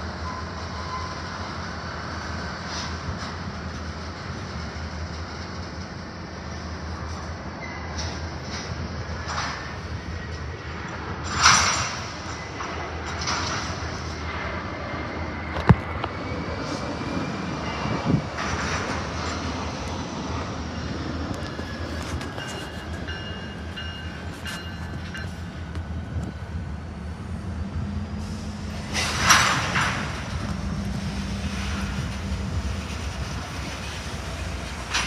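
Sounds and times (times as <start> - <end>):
diesel locomotives idling: 0.0 - 35.0.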